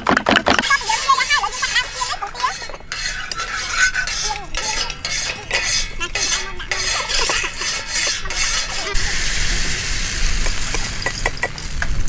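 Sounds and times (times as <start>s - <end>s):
metal spatula scraping a wok: 0.6s - 11.5s
oil sizzling: 0.7s - 12.0s.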